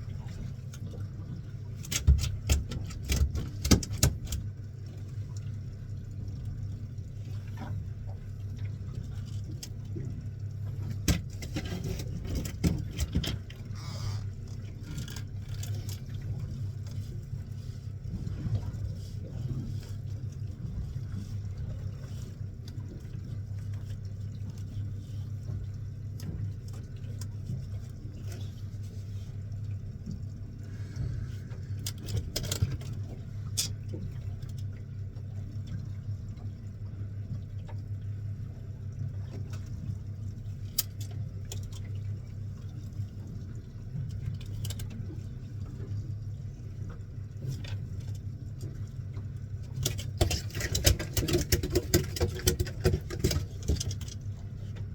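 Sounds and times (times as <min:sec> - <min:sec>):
boat engine humming: 0:00.0 - 0:54.9.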